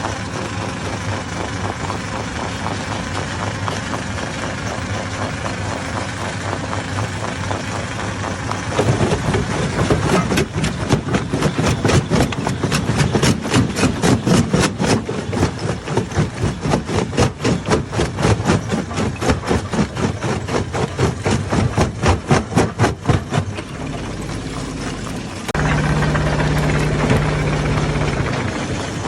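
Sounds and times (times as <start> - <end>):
stone crusher droning: 0.0 - 29.0.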